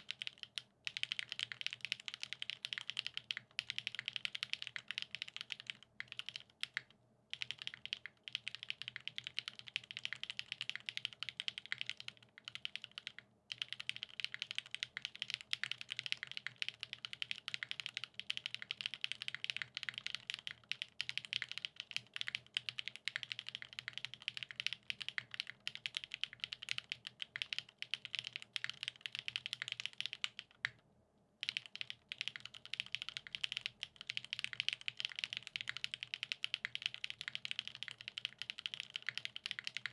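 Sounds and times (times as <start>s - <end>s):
typing on mechanical keyboard: 0.0s - 30.8s, 31.4s - 39.9s.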